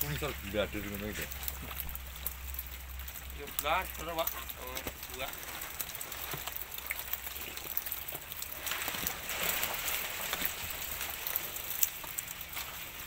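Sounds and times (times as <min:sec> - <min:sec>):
fish slapping and splashing in water: 0:00.0 - 0:13.0.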